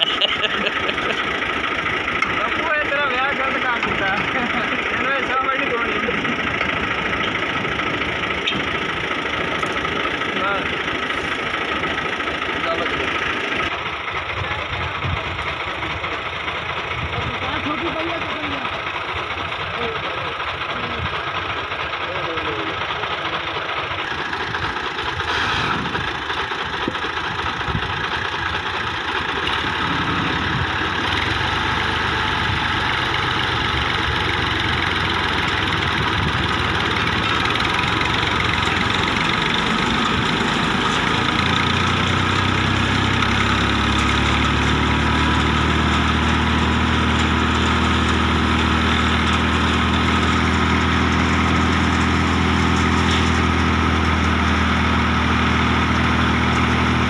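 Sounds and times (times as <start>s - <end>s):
diesel engine running under load: 0.0s - 57.0s
thresher whirring rattle: 0.0s - 57.0s.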